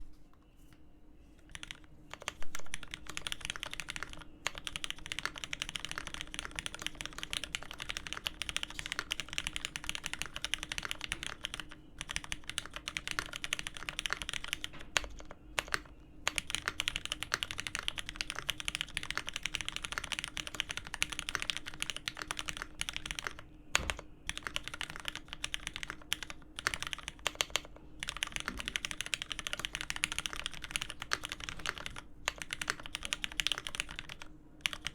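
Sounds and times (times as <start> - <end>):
fast mechanical keyboard typing: 1.5 - 34.9.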